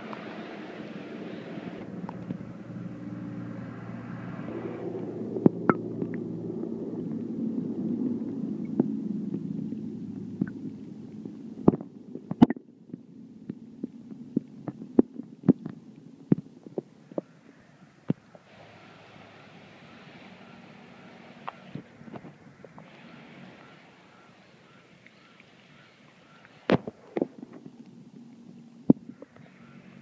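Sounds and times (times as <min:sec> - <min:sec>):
muffled underwater rumble and gurgle: 0:00.0 - 0:30.0.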